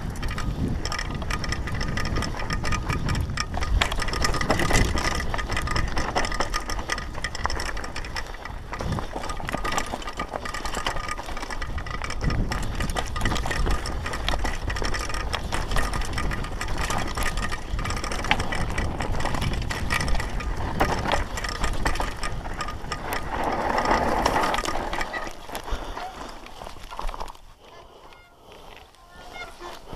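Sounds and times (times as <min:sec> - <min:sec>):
wind rumble on microphone: 0:00.0 - 0:27.4
bike rattling over rocks: 0:00.0 - 0:29.9.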